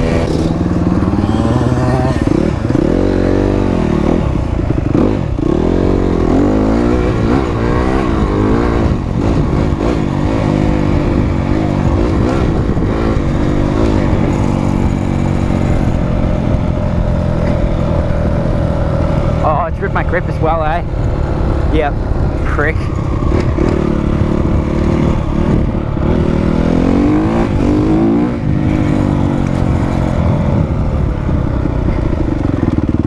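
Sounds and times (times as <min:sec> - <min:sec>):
dirt bike engine revving: 0:00.0 - 0:30.7.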